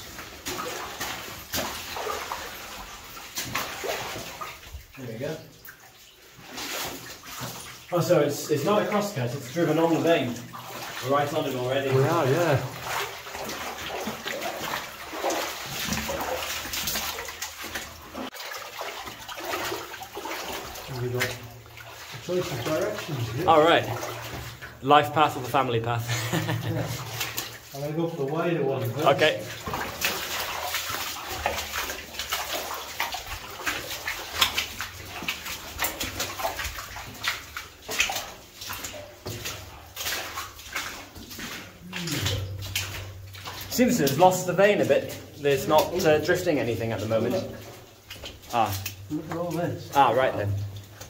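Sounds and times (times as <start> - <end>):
boots sloshing through water: 0.0 - 51.0.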